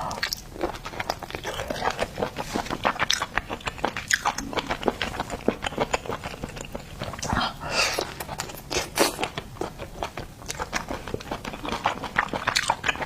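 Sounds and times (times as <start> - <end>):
chewing and crunching food: 0.0 - 13.0.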